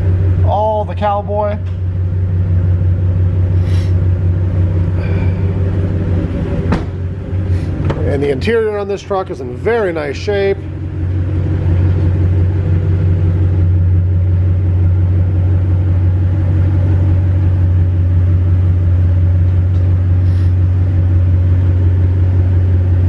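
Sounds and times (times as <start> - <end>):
engine idling with low hum: 0.0 - 23.0.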